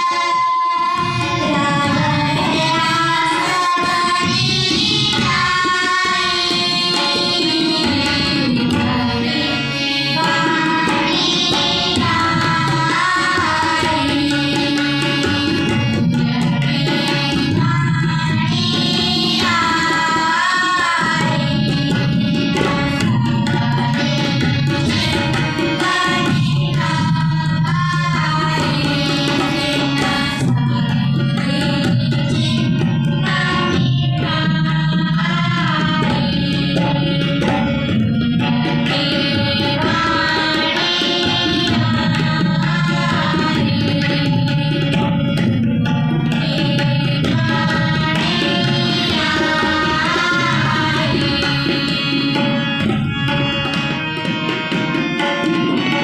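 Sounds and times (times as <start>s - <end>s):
child singing a hymn: 0.0s - 37.8s, 38.4s - 45.0s, 46.4s - 52.8s
harmonium: 0.0s - 56.0s
tabla rhythm: 0.0s - 56.0s.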